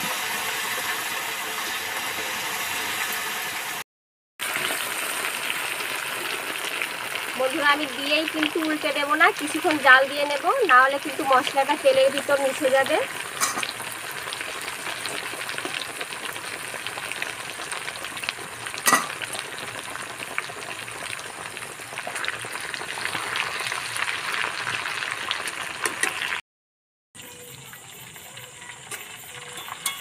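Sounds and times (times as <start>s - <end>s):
chicken deep-frying in oil: 0.0s - 3.8s, 4.4s - 26.4s, 27.2s - 30.0s.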